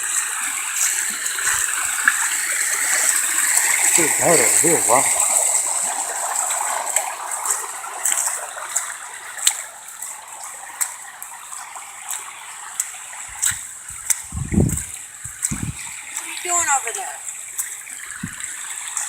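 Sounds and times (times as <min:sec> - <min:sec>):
floodwater rushing: 0:00.0 - 0:19.0
water splashes: 0:00.0 - 0:19.0.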